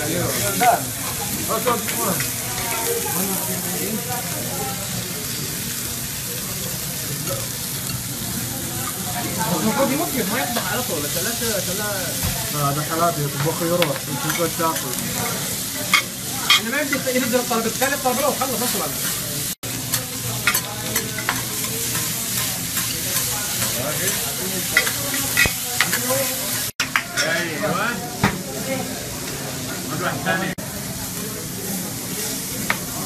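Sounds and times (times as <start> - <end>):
food sizzling on a hot plate: 0.0 - 33.0.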